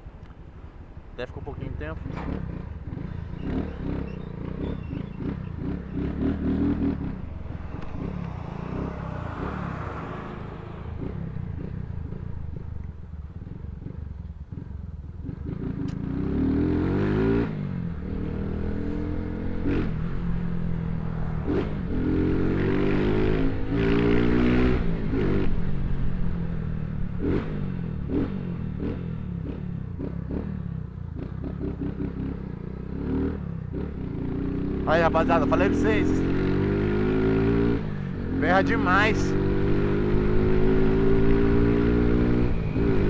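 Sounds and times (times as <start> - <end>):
motorcycle engine revving: 1.4 - 43.0.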